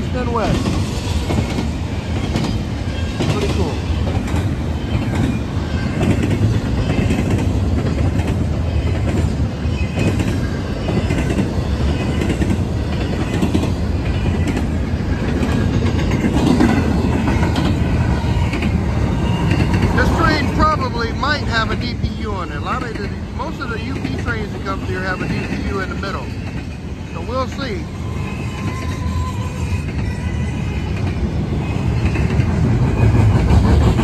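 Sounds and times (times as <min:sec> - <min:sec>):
wheels clacking over rail joints: 0:00.0 - 0:29.1
train wheels rumbling on rail: 0:00.0 - 0:34.0.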